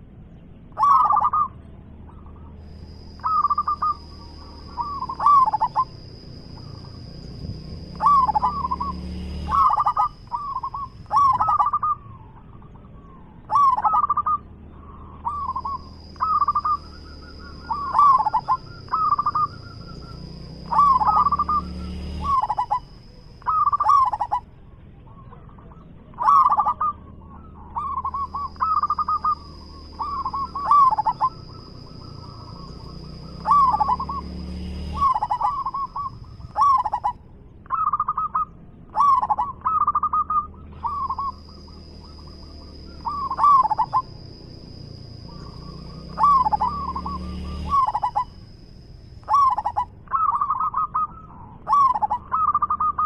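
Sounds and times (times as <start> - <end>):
dove cooing: 0.7 - 53.0.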